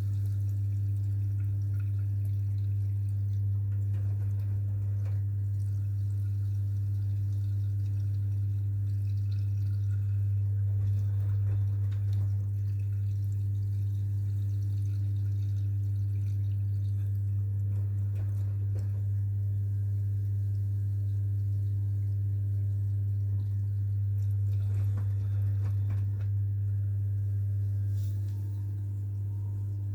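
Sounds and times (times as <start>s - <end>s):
washing machine humming: 0.0s - 29.9s
water trickling and dripping: 0.0s - 29.9s.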